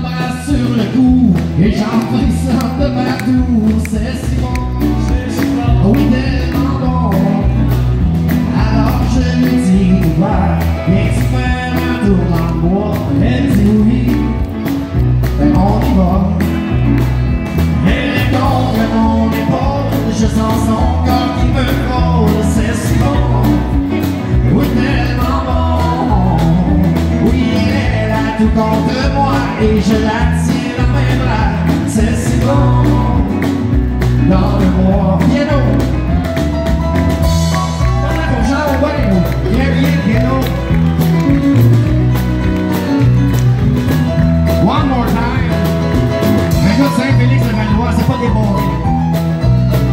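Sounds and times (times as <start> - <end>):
man singing: 0.0 - 42.2, 44.0 - 49.2
country band playing: 0.0 - 49.9.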